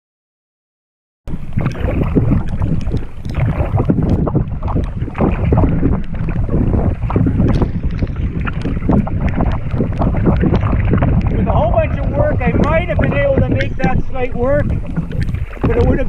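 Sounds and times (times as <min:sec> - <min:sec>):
muffled wind: 0:01.3 - 0:16.0
paddle in choppy water: 0:01.3 - 0:16.0.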